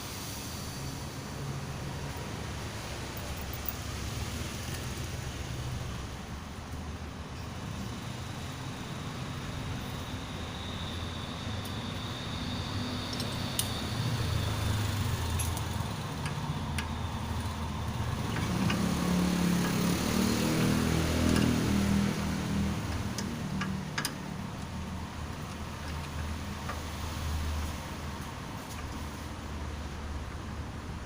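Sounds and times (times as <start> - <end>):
vehicle engine hum: 0.0 - 31.0.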